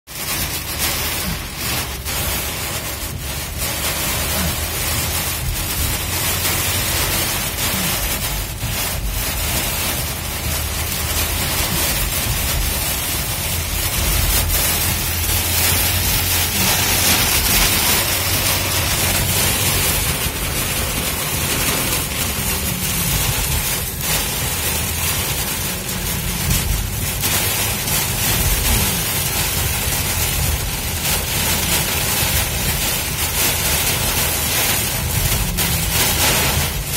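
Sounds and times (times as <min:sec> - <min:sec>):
heavy rain on car roof: 0:00.0 - 0:36.9
tyres rumbling on wet road: 0:00.1 - 0:36.9.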